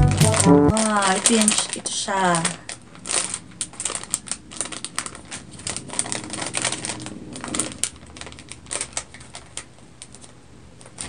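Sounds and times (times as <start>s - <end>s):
plastic bag crinkling: 0.3s - 11.0s.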